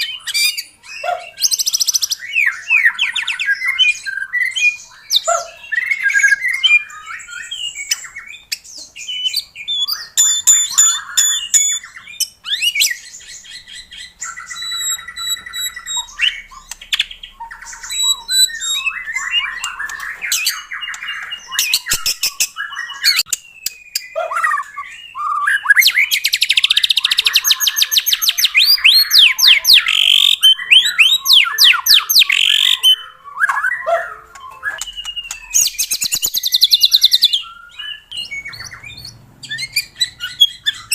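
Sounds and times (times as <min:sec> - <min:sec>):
bird singing whistled song: 0:00.0 - 0:40.9.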